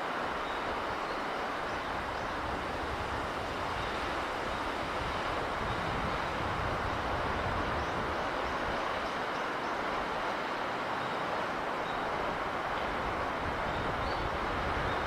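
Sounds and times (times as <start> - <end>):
sea wind: 0.0 - 15.0.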